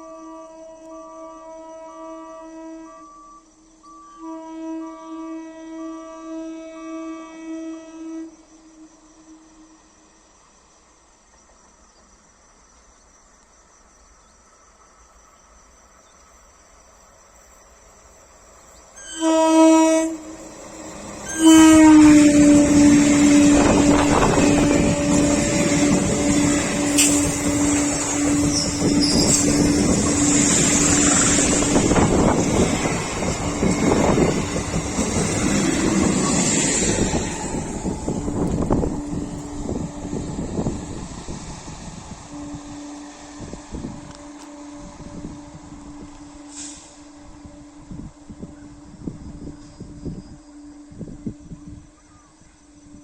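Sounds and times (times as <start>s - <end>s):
train horn blasts: 0.0s - 10.1s, 19.0s - 53.0s
long train horn: 0.0s - 10.2s, 18.8s - 53.0s
electric train passing: 0.0s - 53.0s.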